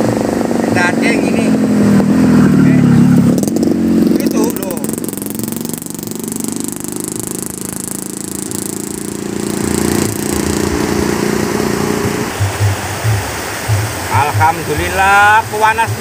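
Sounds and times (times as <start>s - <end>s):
small engine running: 0.0s - 14.8s
low thumps: 1.5s - 15.0s.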